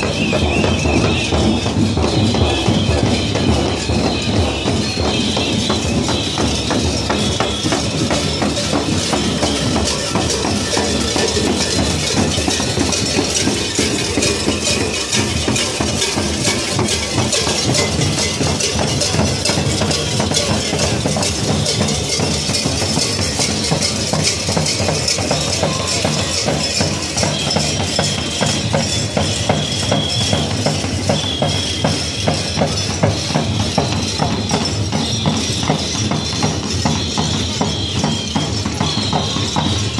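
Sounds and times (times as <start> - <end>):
fast folk drumming: 0.0 - 39.9.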